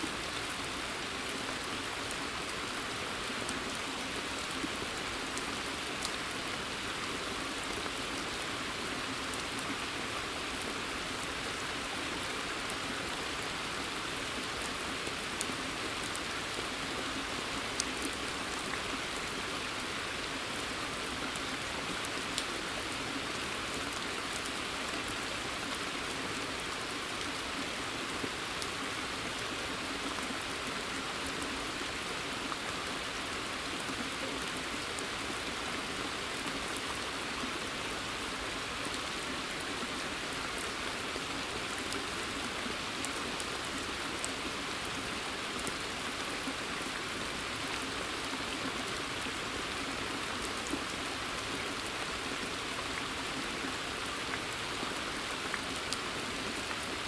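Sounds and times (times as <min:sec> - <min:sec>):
steady rain in a forest: 0:00.0 - 0:57.0.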